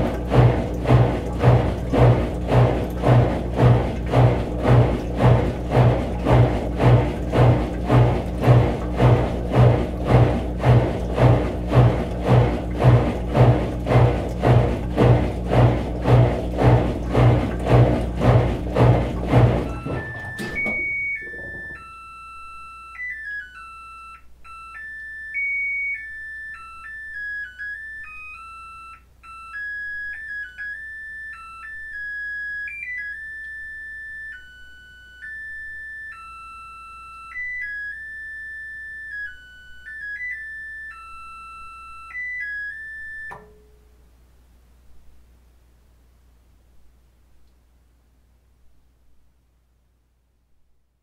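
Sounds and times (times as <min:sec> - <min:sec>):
washing machine beeping melody: 0:00.0 - 0:43.7.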